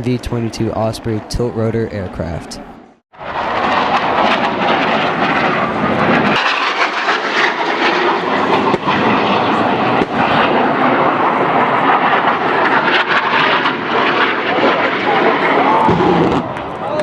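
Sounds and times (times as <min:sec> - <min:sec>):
military aircraft engine noise: 0:00.0 - 0:17.0.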